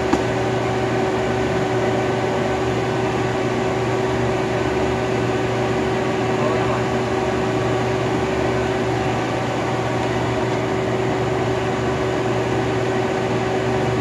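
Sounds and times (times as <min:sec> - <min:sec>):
machine humming steadily: 0:00.0 - 0:14.0.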